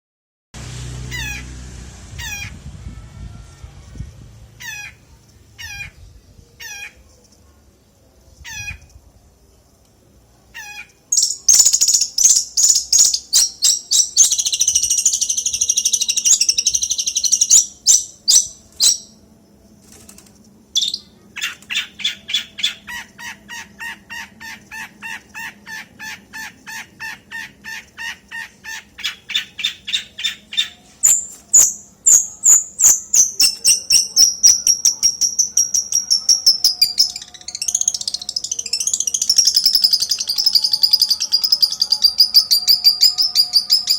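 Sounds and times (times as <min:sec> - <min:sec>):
songbird singing: 0:01.1 - 0:43.9.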